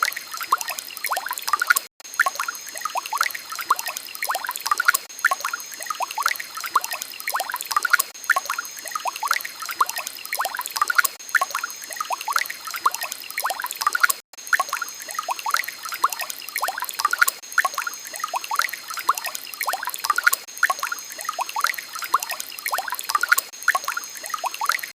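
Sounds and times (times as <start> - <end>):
water trickling and bubbling: 0.0 - 24.9.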